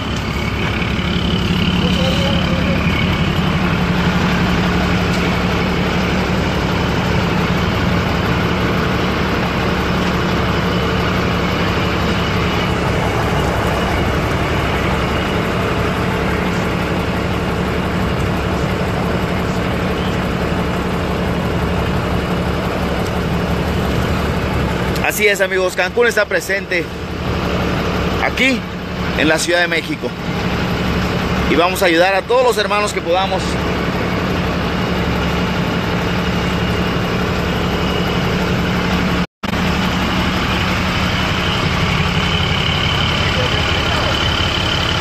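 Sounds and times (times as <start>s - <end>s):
large vehicle engine idling: 0.0s - 45.0s.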